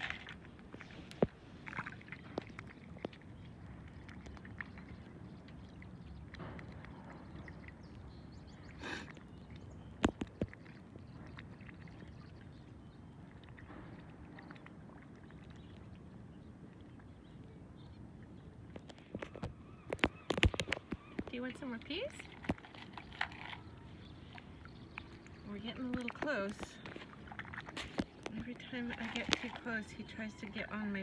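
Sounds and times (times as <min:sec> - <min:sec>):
water washing around kayak: 0:00.0 - 0:15.7, 0:18.9 - 0:31.0.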